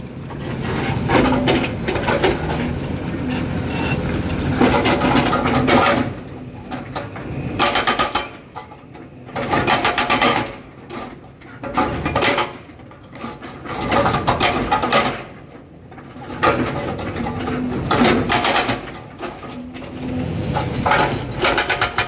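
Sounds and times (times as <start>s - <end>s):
excavator running: 0.0s - 22.0s.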